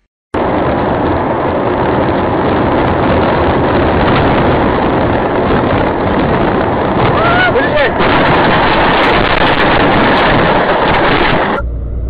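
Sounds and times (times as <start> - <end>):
car road and engine noise: 0.4 - 12.0.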